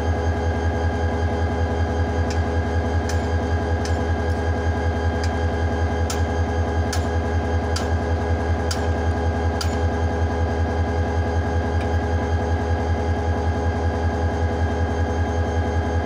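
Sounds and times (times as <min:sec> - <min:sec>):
diesel locomotive engine idling: 0:00.0 - 0:16.0.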